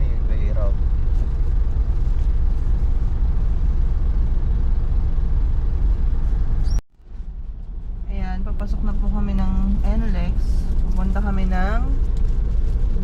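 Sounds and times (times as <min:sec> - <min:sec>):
vehicle interior rumble: 0:00.0 - 0:13.0.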